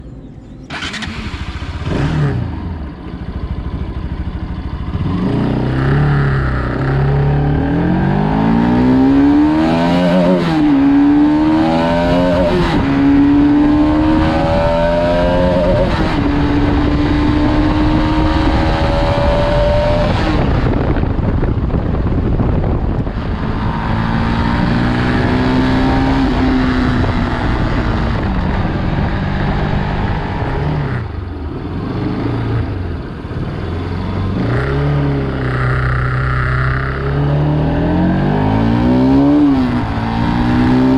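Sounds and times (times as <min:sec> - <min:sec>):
motorcycle engine revving: 0:00.3 - 0:40.9.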